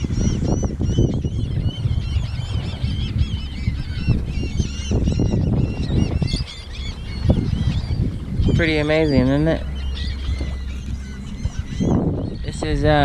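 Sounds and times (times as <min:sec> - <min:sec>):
flock of gulls calling: 0:00.0 - 0:13.0
low steady rumble: 0:00.0 - 0:13.0.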